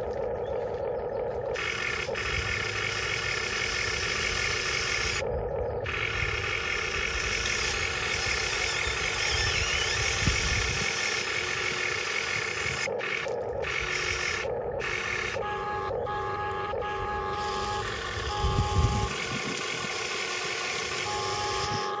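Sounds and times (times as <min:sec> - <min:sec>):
toy excavator engine drone: 0:00.0 - 0:22.0.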